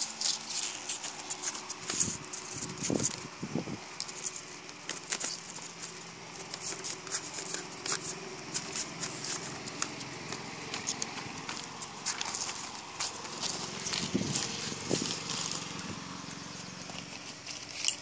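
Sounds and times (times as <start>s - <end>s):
paper crackling under kitten: 0.0s - 18.0s.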